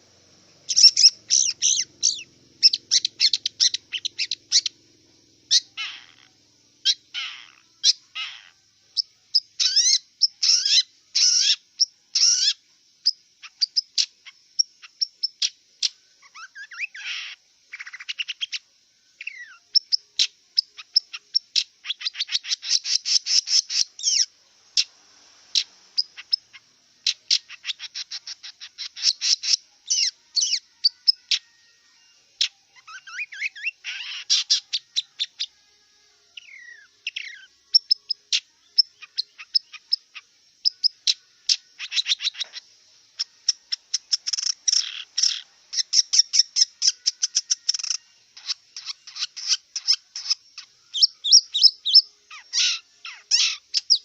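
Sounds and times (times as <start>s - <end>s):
shrike singing: 0.0s - 54.0s.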